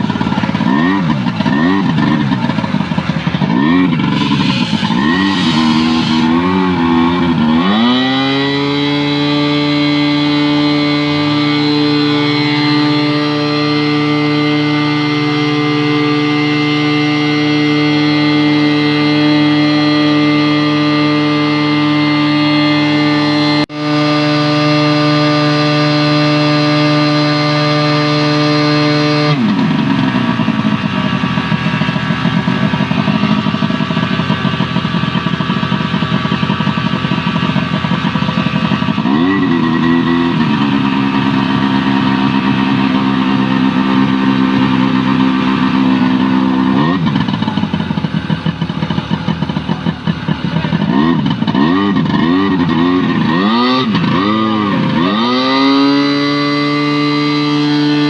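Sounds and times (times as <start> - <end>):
pump engine running: 0.0 - 58.0.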